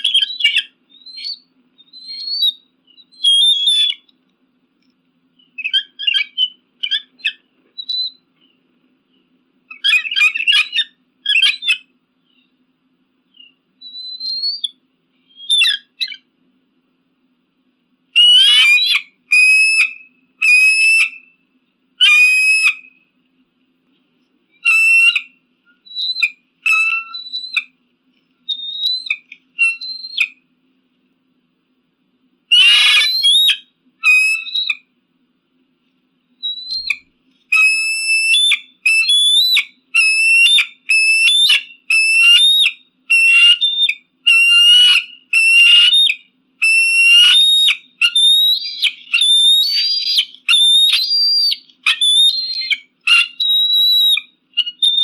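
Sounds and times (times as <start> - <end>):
eagle whistling calls: 0.0 - 4.1, 5.4 - 12.6, 13.3 - 16.3, 18.2 - 21.4, 22.0 - 23.0, 24.5 - 27.8, 28.4 - 30.4, 32.5 - 34.9, 36.4 - 55.0.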